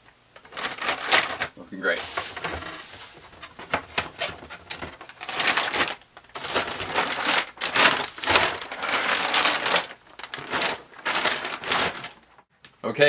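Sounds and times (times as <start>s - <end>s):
loose parts clattering: 0.4s - 12.4s
plastic bags crinkling: 0.4s - 12.4s.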